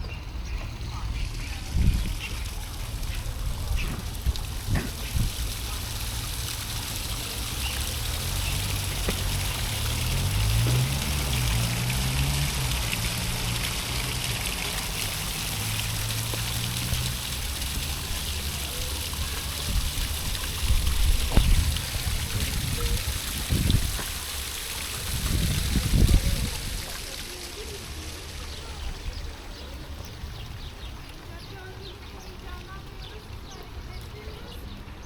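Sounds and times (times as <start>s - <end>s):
water trickling: 0.1s - 35.0s.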